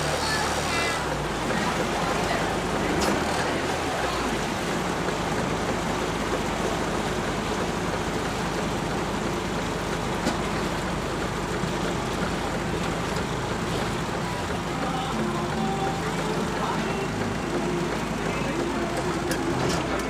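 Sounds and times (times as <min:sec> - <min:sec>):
boat engine running: 0:00.0 - 0:20.0
water and wind noise: 0:00.0 - 0:20.0.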